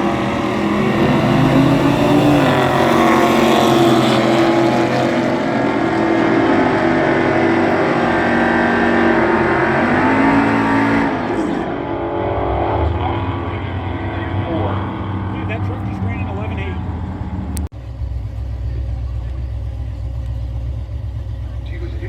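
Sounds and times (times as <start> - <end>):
drag racing truck engine: 0.0 - 22.0.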